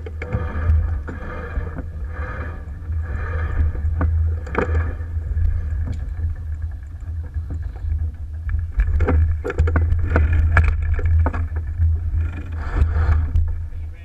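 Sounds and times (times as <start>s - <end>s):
knocks and clatter of gear: 0.0s - 14.0s
water washing along hull: 0.0s - 14.0s.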